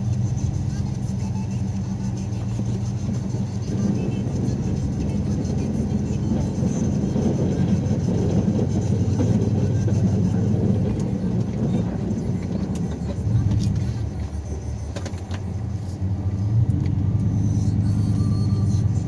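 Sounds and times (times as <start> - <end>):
snow plow engine running: 0.0 - 19.0.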